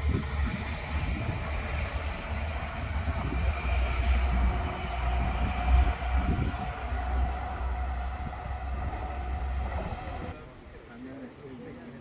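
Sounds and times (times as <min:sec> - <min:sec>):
wind rumbling on microphone: 0:00.0 - 0:10.4
distant steam locomotive: 0:00.0 - 0:10.7.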